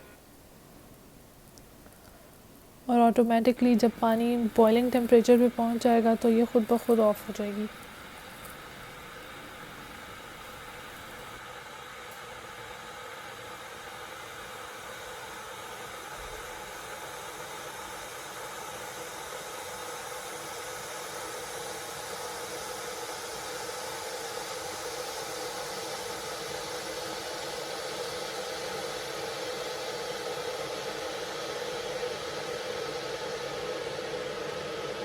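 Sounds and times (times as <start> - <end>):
electric kettle hissing: 0.0 - 35.0.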